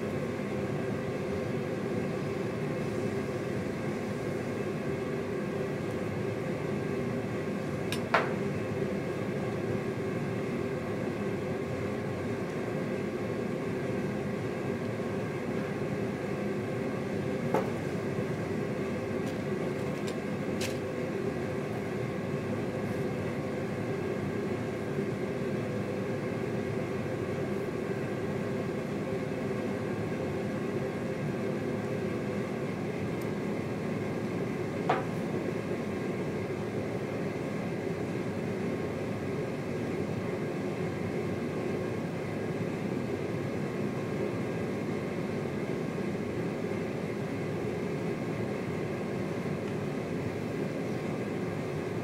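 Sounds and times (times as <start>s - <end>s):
mechanical hum with held tones: 0.0s - 52.0s.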